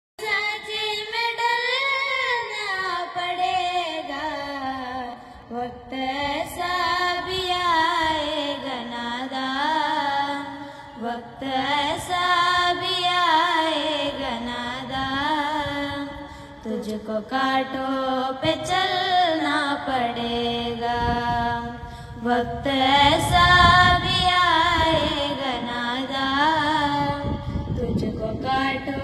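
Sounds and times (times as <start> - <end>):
girls singing into microphones: 0.2 - 29.0.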